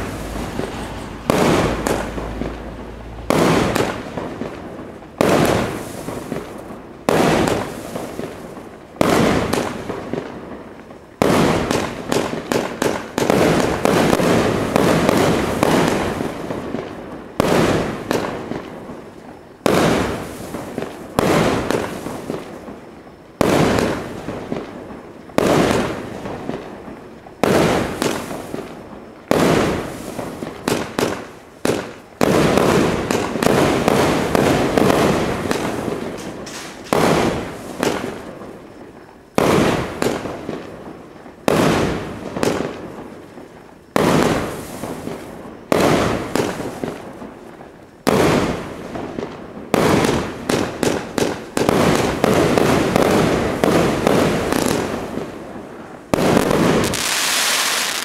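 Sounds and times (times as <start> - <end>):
firework bangs: 0.0 - 58.0
firework fizzing crackle: 0.0 - 58.0.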